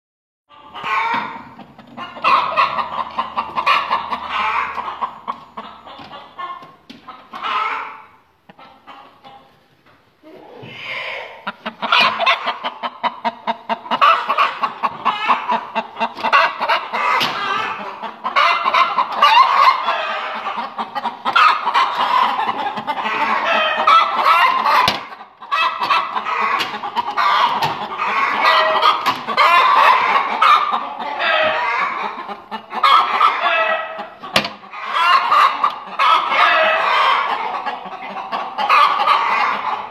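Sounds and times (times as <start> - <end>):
hens clucking: 0.5 - 39.9.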